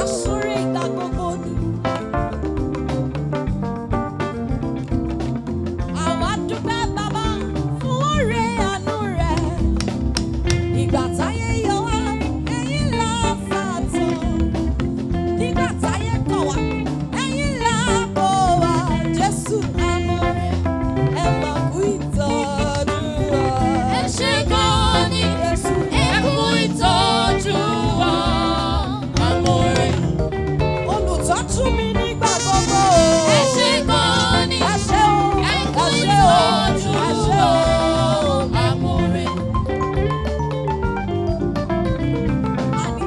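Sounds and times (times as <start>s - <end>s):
upbeat worship music with singing: 0.0s - 43.0s.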